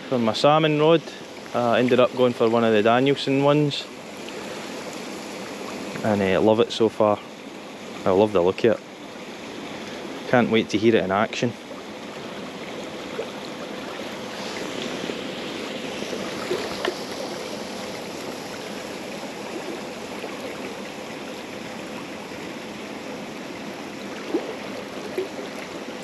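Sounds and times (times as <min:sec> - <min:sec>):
river water running: 0:00.0 - 0:26.0.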